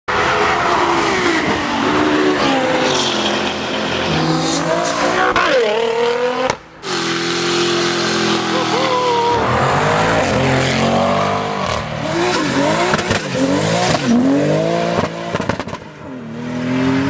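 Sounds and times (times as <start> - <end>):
car engines revving hard: 0.1 - 17.0.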